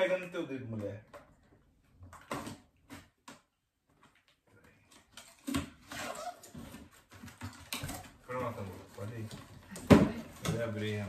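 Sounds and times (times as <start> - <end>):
cardboard and tape rustling: 1.2 - 11.0.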